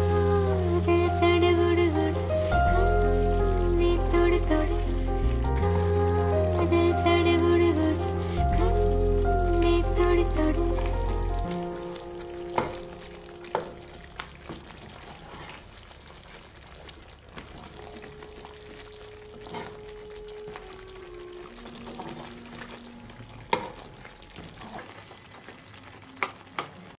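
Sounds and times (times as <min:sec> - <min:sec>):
curry simmering: 0:00.0 - 0:27.0.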